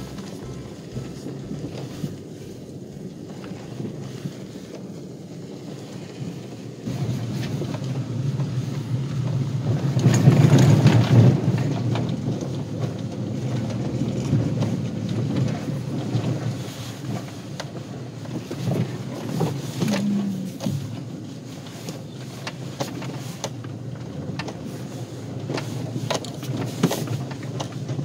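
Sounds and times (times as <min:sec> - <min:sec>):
gravel crackling under tyres: 0:00.0 - 0:28.0
van engine and tyre rumble: 0:00.0 - 0:28.0
wind noise: 0:00.0 - 0:28.0.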